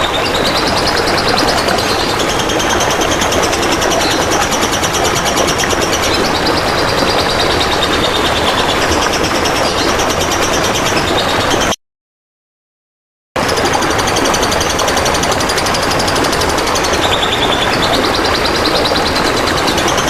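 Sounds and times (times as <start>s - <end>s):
trickling water: 0.0s - 11.8s, 13.4s - 20.0s.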